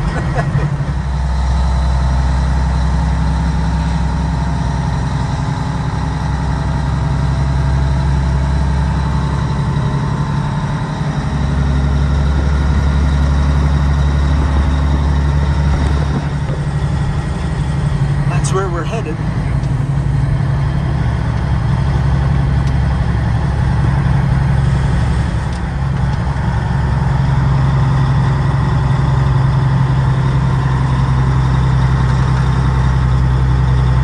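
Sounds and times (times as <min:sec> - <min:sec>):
truck diesel engine drone: 0:00.0 - 0:34.0.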